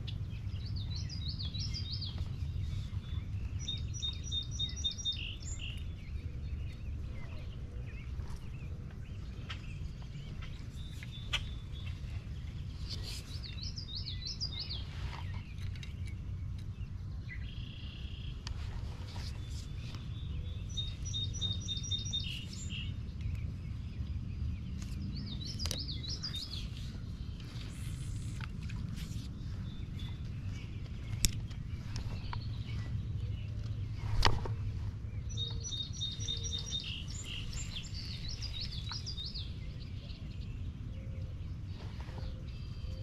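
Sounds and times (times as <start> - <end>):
songbirds singing: 0.0 - 43.0
steady low rumble: 0.0 - 43.0.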